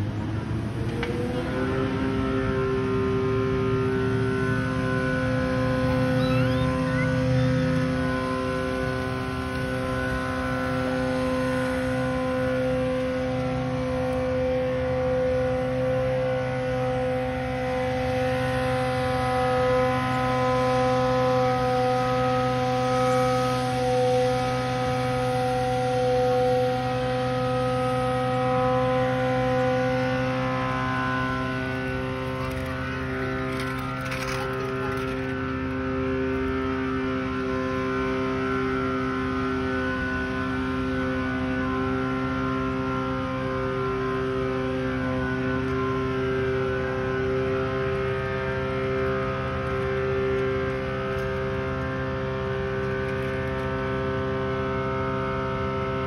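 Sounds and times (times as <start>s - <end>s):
heavy machinery droning hum: 0.0s - 56.0s.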